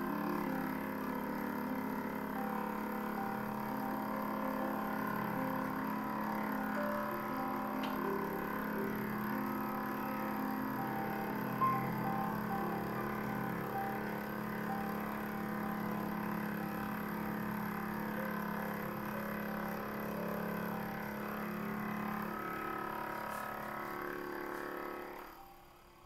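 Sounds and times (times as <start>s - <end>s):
end mill cutting metal chatter: 0.0s - 25.6s
milling machine motor running: 0.0s - 26.0s.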